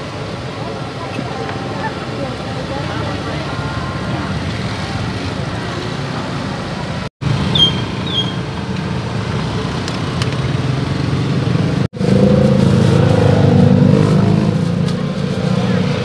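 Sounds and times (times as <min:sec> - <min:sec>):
motorcycle traffic hum: 0:00.0 - 0:16.0.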